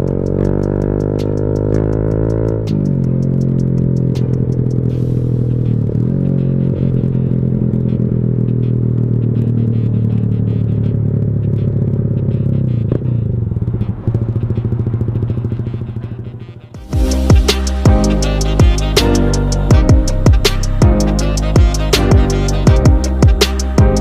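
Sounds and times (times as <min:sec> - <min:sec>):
motorcycle idling: 0:00.0 - 0:24.0.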